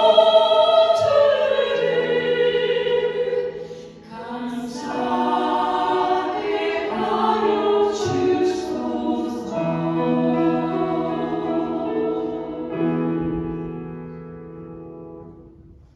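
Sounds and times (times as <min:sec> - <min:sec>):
church choir singing a hymn: 0:00.0 - 0:14.1.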